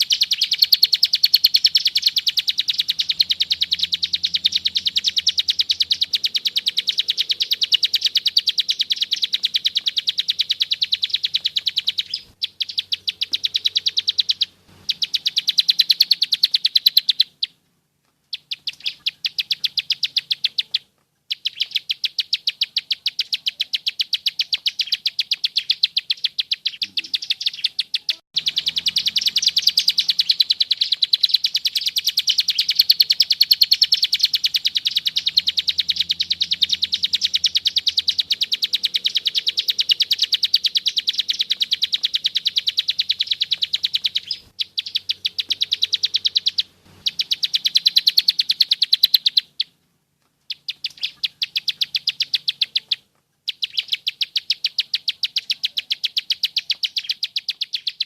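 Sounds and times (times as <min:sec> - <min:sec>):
bird singing fast ticking trill: 0:00.0 - 0:17.6, 0:18.3 - 0:49.8, 0:50.5 - 0:58.0.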